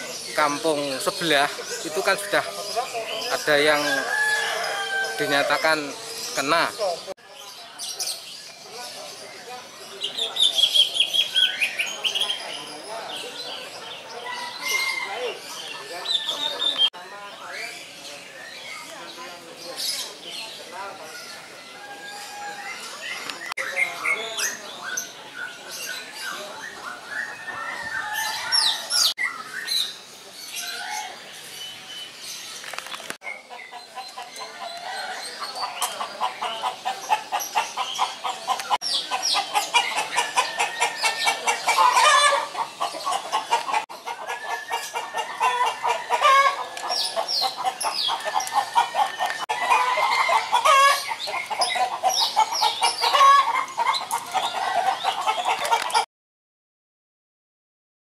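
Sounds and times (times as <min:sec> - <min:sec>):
caged birds chirping and chattering: 0:00.0 - 0:56.1.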